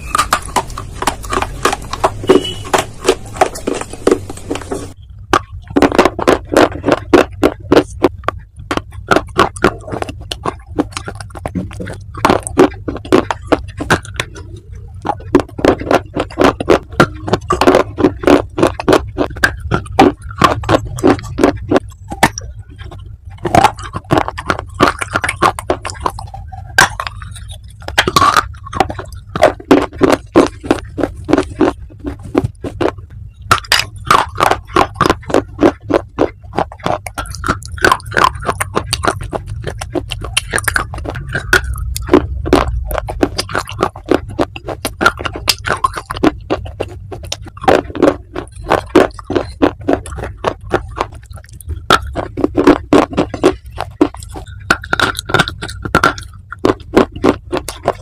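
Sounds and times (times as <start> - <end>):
crunching and chewing clay: 0.0 - 58.0.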